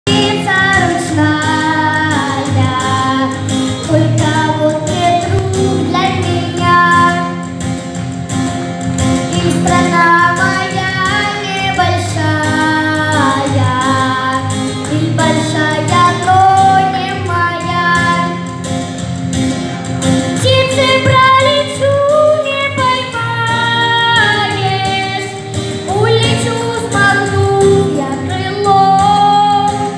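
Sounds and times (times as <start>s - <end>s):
instrumental accompaniment: 0.0s - 29.9s
girl singing: 0.1s - 7.6s, 9.3s - 18.6s, 20.4s - 29.9s.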